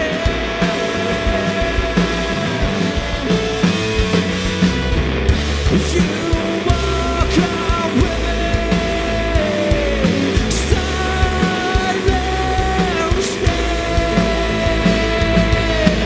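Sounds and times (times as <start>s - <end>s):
drum beat: 0.0s - 16.0s
electric bass: 0.0s - 16.0s
electric guitar: 0.0s - 16.0s.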